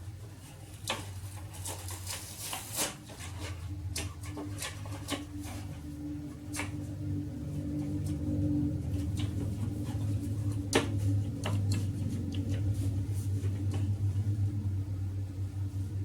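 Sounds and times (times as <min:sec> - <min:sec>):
steady low hum: 0:00.0 - 0:16.0
woodpecker pecking: 0:00.8 - 0:14.0.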